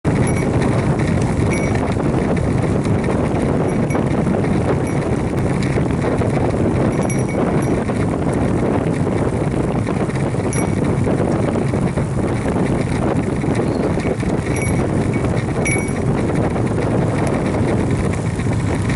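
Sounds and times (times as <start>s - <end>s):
wind and road noise: 0.0s - 18.9s
small clicks and rattles: 0.1s - 18.9s.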